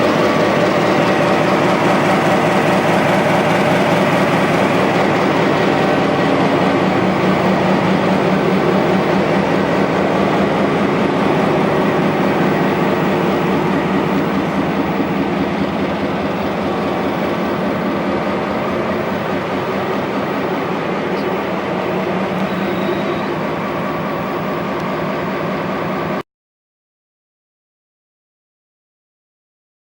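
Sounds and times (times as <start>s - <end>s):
diesel locomotive engine hum: 0.0s - 26.2s
rail noise: 0.0s - 26.2s.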